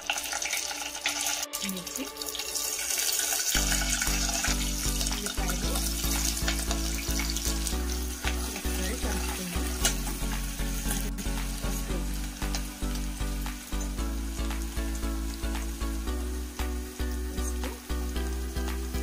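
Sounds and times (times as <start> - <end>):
oil sizzling in a pot: 0.0 - 19.0
background music with bass line: 3.4 - 19.0.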